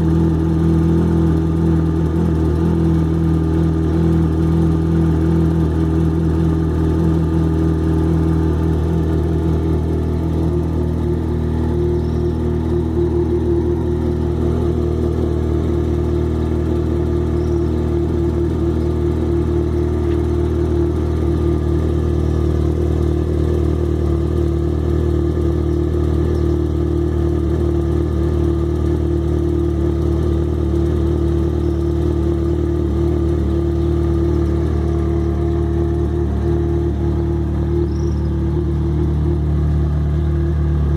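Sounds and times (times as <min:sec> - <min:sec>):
engine ticking: 0:00.0 - 0:40.9
motorcycle engine idling: 0:00.0 - 0:40.9.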